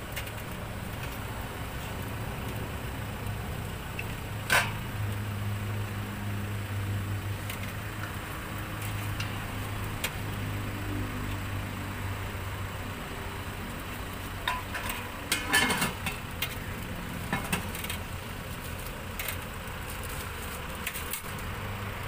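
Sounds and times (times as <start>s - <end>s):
oil sizzling: 0.0s - 22.0s.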